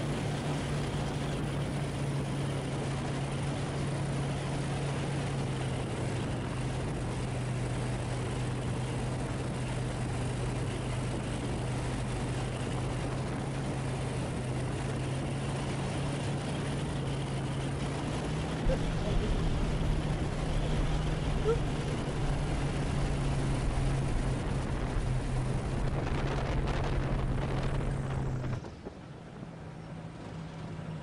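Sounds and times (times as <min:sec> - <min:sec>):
rushing airflow: 0:00.0 - 0:29.0
light plane engine and propeller droning: 0:00.0 - 0:31.0.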